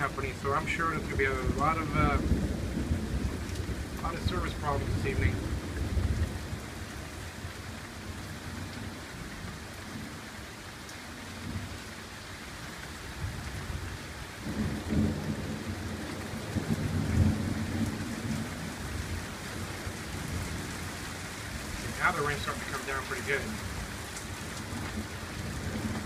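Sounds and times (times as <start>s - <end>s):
low rumble of thunder: 0.0s - 10.4s, 11.2s - 12.0s, 12.6s - 26.0s
steady rain falling: 0.0s - 26.0s.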